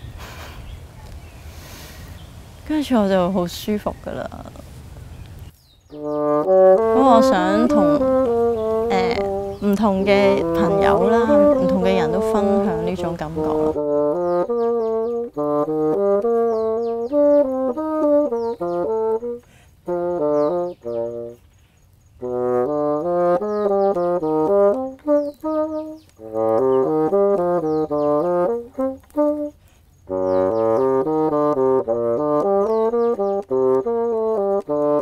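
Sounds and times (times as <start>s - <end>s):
solo bassoon melody: 5.9s - 21.4s, 22.2s - 35.0s.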